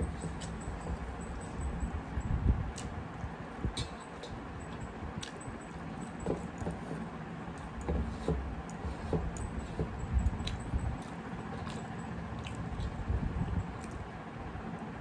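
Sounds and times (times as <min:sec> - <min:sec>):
person chewing with wet mouth sounds: 0:00.1 - 0:07.9, 0:08.6 - 0:14.1.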